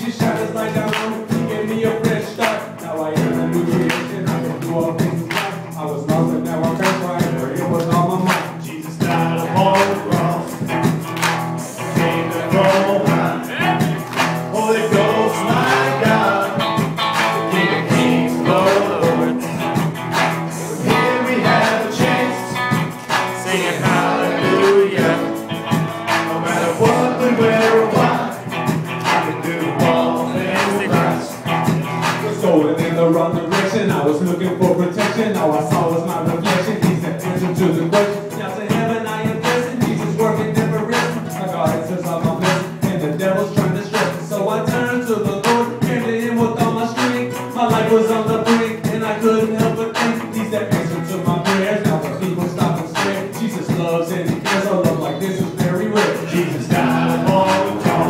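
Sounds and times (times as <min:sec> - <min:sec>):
live band music: 0:00.0 - 0:58.0
man rapping into a microphone: 0:00.0 - 0:58.0.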